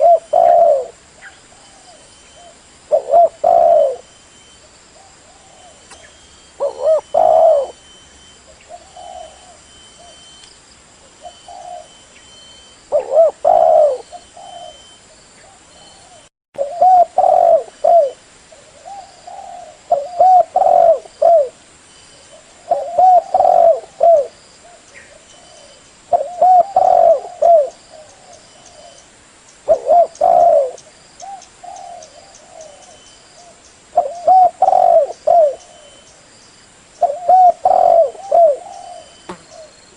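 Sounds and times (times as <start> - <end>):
dove cooing: 0.0 - 4.1, 5.0 - 8.0, 8.6 - 10.3, 11.1 - 12.0, 12.9 - 21.6, 22.3 - 29.0, 29.7 - 36.0, 37.0 - 39.8.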